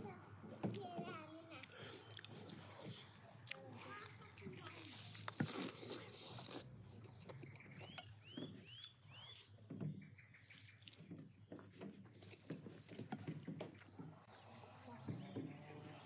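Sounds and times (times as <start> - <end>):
bird chirping: 0.0 - 16.0
man chewing meat: 1.6 - 14.5.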